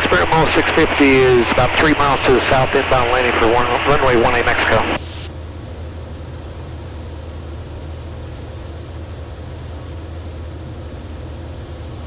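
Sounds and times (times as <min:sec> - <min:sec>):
light aircraft engine and propeller drone: 0:00.0 - 0:12.0.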